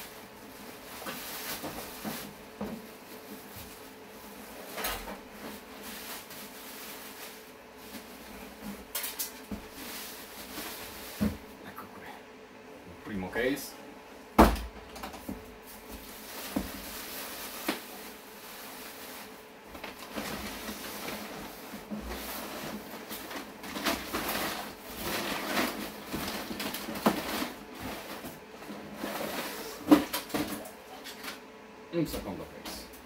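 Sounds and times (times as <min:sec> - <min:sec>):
plastic wrap and cardboard rustling: 0:00.0 - 0:11.6, 0:15.0 - 0:31.4.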